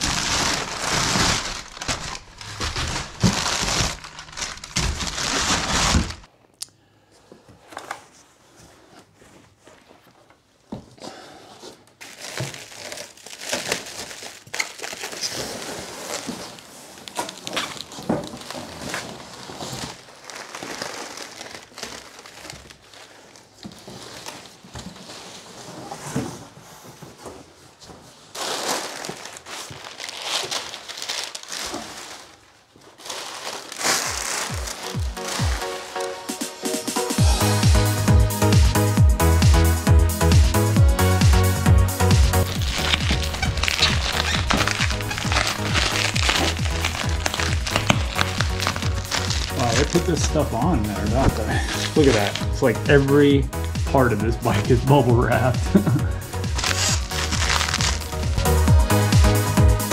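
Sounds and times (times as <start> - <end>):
paper and bubble wrap crinkling: 0.0 - 6.3, 11.7 - 37.7, 41.7 - 59.9.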